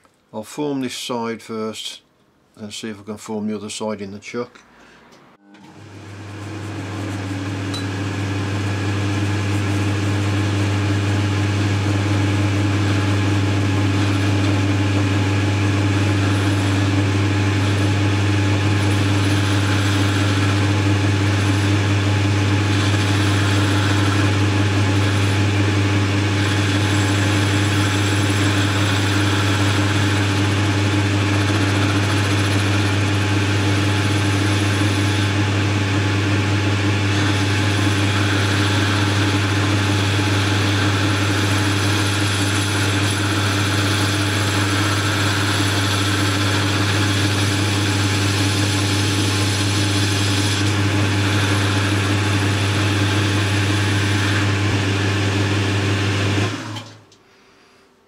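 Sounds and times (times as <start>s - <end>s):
lathe humming: 5.5s - 57.0s
tool cutting metal bar: 6.4s - 55.5s.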